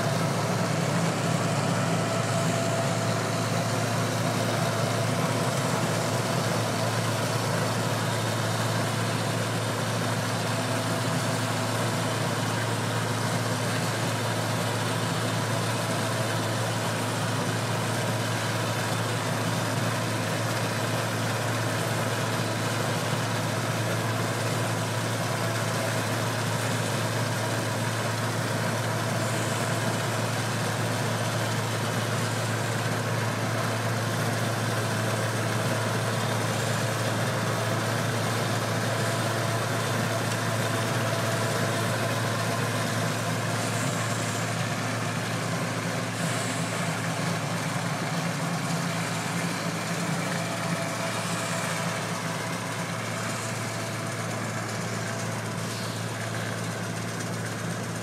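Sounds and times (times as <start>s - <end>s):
rotary plow throwing snow: 0.0s - 58.0s
small engine running: 0.0s - 58.0s.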